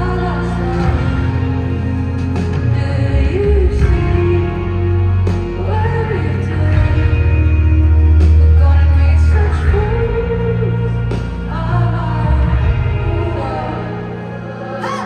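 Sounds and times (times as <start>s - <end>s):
live rock band: 0.0s - 15.0s
woman singing: 0.0s - 15.0s.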